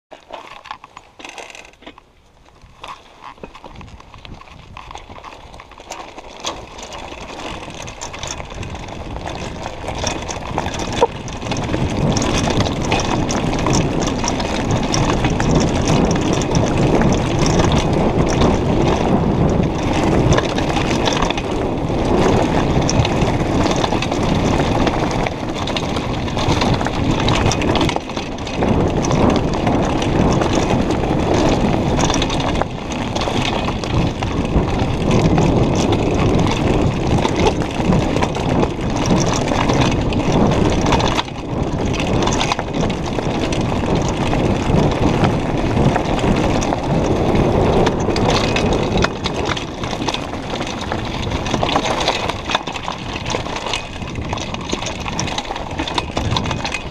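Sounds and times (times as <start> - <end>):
bike rattling: 0.1 - 56.9
tyres crunching over stones: 0.1 - 56.9
wind rushing over microphone: 6.6 - 56.9.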